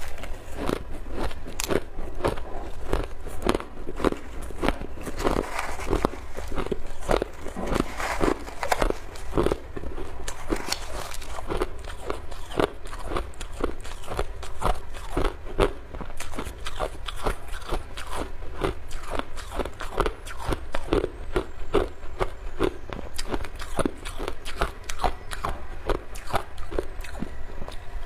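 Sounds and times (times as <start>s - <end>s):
person crunching ice cubes: 0.0s - 21.0s, 22.6s - 27.2s.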